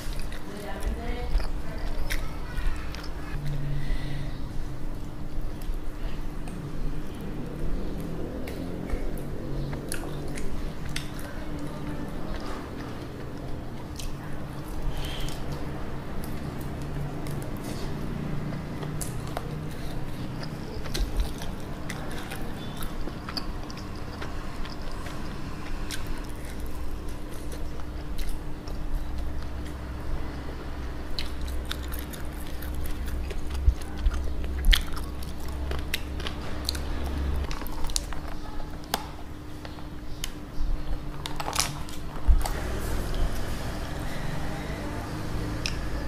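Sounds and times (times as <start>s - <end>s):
biting and chewing: 0.0s - 3.8s, 5.0s - 30.0s, 31.0s - 44.0s
steady low hum: 0.0s - 46.0s.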